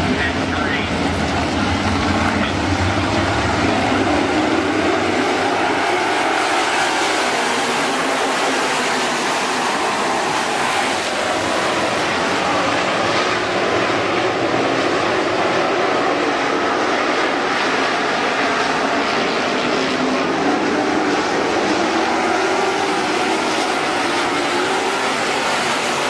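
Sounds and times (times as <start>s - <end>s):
race car engines droning: 0.0s - 26.0s.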